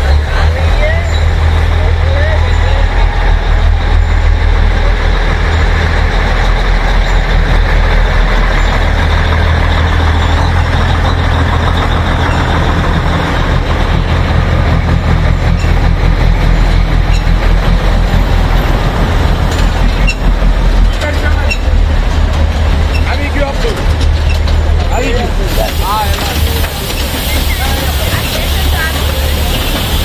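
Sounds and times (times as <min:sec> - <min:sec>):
diesel locomotive engine droning: 0:00.0 - 0:30.0.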